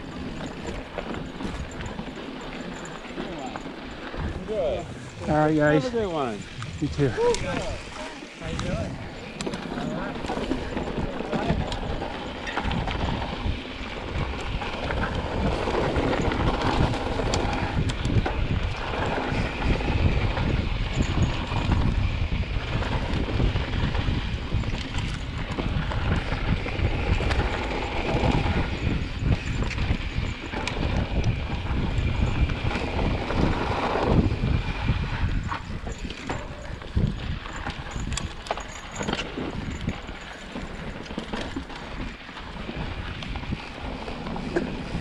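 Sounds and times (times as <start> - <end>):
bike rattling and knocking: 0.0 - 45.0
tyres on dirt: 0.0 - 45.0
wind buffeting microphone: 0.0 - 45.0.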